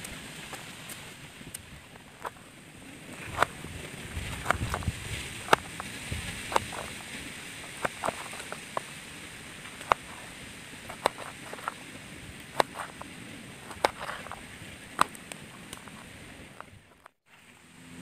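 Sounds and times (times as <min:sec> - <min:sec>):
straw fire crackling: 0:00.0 - 0:17.4.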